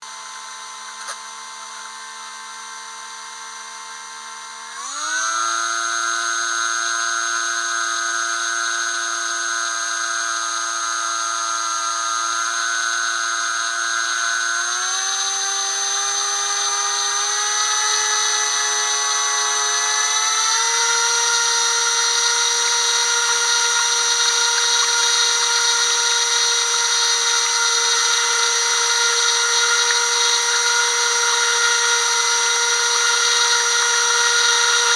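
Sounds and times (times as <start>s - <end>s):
electric motors whining: 0.2s - 34.9s.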